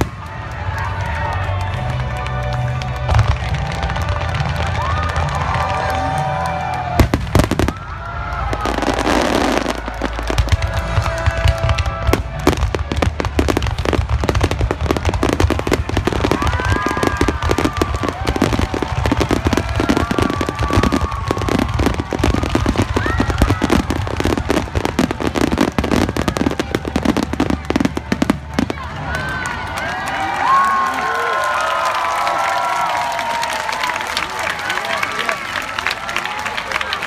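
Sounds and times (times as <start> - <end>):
fireworks bursts and crackling: 0.0 - 29.8
music: 0.0 - 30.4.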